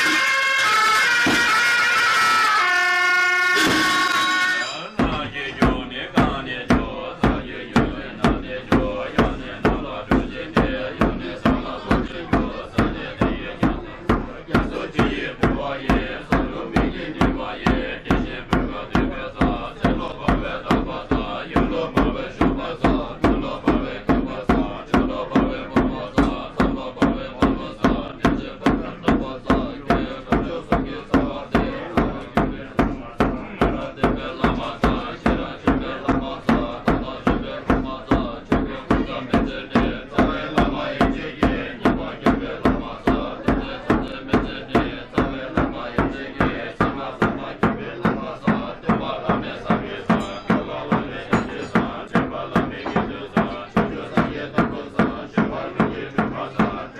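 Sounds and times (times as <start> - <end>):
drum struck steadily: 0.0 - 2.6, 3.5 - 56.9
monks chanting in low voices: 5.0 - 56.9.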